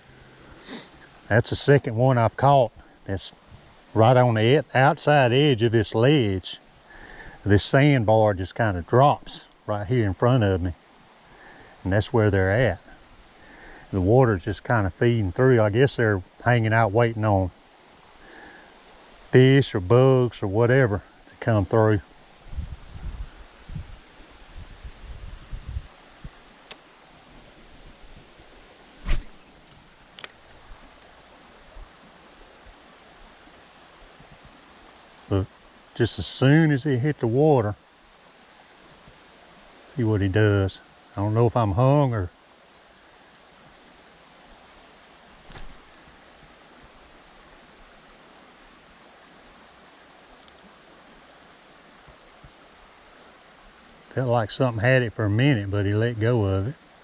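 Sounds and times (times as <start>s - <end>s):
crickets chirping: 0.0s - 57.0s
insects droning: 0.0s - 57.0s.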